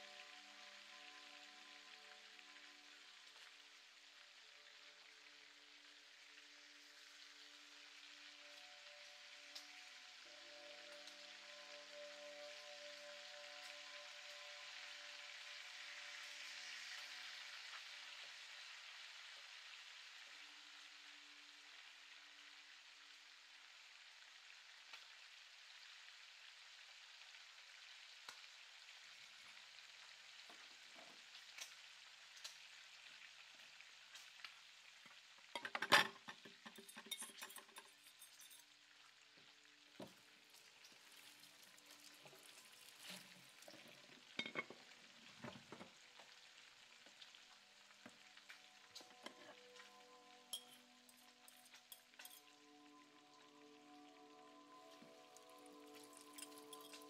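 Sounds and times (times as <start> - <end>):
food sizzling in pan: 0.0 - 57.0.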